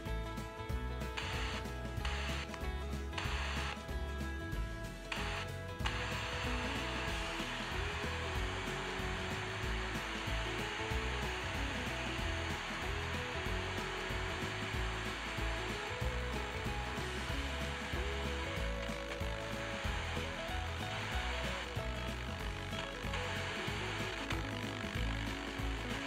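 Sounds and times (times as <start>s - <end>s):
radio static hiss and buzz: 1.2s - 4.0s, 4.9s - 26.0s.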